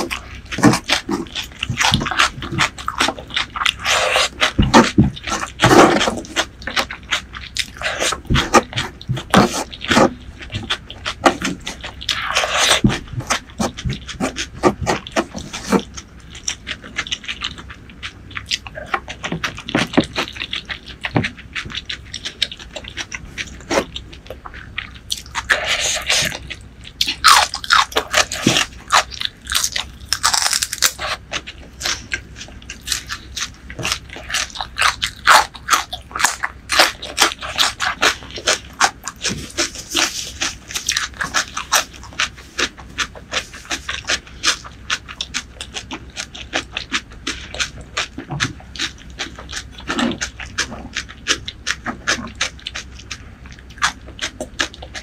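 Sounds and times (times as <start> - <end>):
wet chewing: 0.0 - 55.0.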